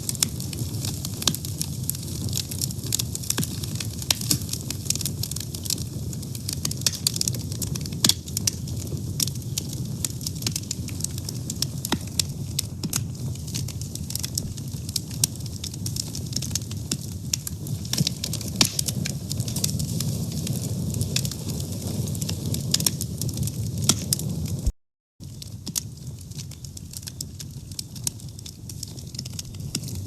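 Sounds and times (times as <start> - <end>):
fire crackling and popping: 0.0 - 30.0.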